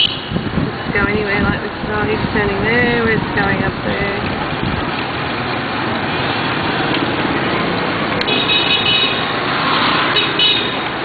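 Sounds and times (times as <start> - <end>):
street traffic engine noise: 0.0 - 11.0.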